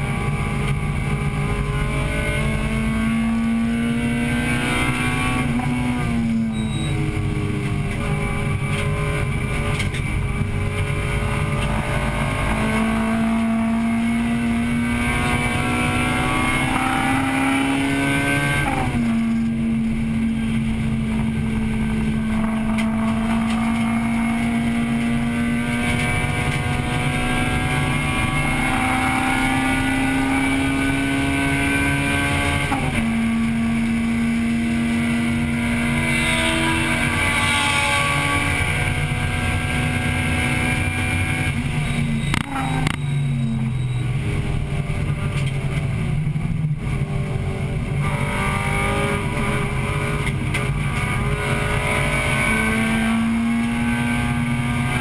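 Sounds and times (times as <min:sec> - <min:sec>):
car engine running hard: 0:00.0 - 0:55.0.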